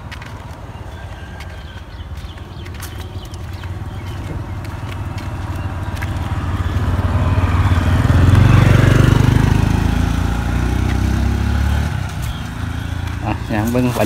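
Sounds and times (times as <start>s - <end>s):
vehicle engine running: 1.6s - 14.0s.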